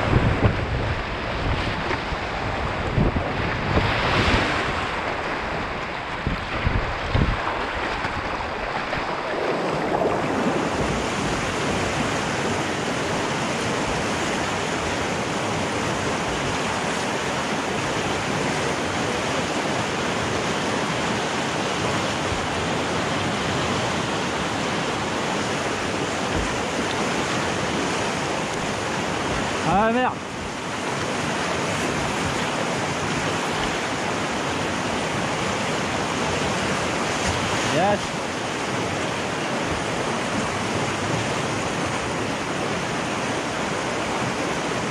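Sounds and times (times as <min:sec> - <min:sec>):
river rapids rushing: 0:00.0 - 0:44.9.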